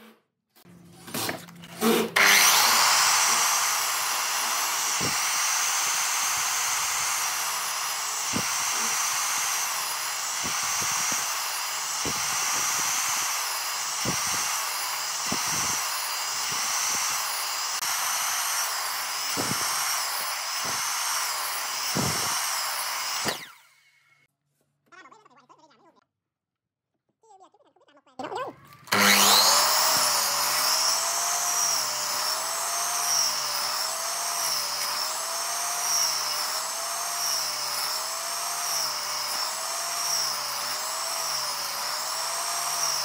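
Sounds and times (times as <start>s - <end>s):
miter saw cutting wood: 1.0s - 24.2s, 28.8s - 43.0s.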